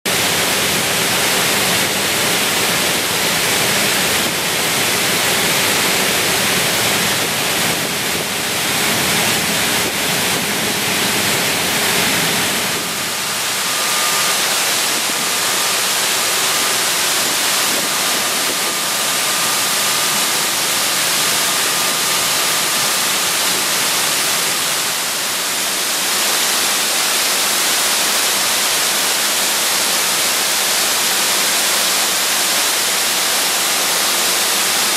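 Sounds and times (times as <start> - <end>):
falling water hissing: 0.1 - 34.9.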